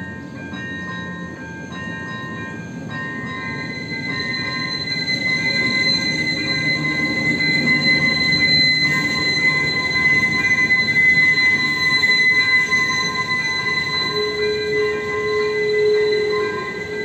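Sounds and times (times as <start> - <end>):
low rumble of train: 0.0 - 17.0
train wheel squeal: 0.0 - 17.0.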